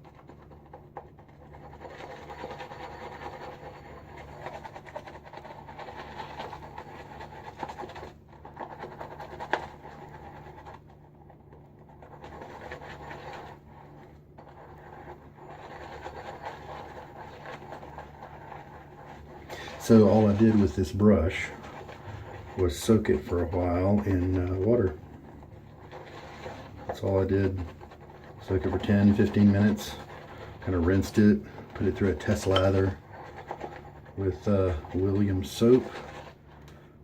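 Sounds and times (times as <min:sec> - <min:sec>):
shaving brush swirling lather: 0:00.0 - 0:37.0.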